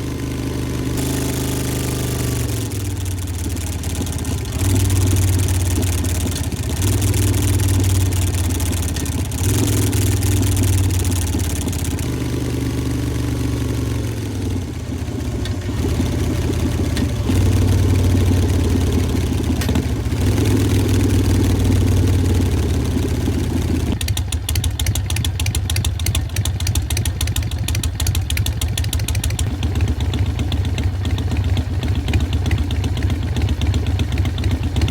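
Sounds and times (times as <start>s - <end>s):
motorcycle engine revving and idling: 0.0s - 34.9s.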